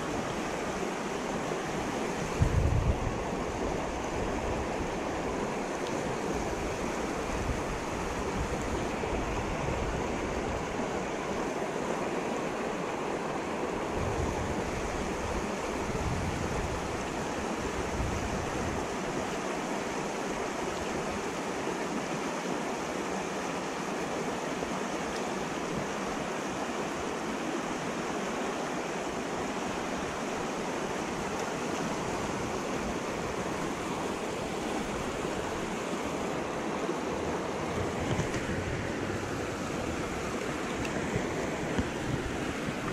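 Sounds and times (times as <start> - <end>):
creek rapids rushing over rocks: 0.0 - 42.9.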